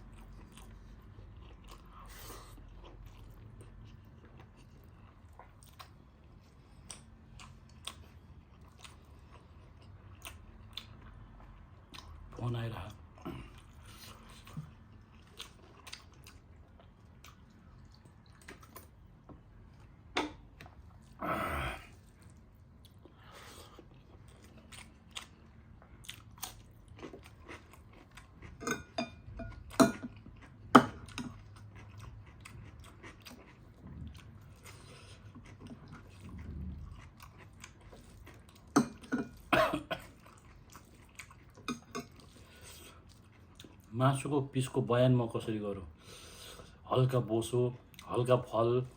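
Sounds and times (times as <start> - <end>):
chewing and crunching food: 0.0 - 21.2, 21.8 - 48.9.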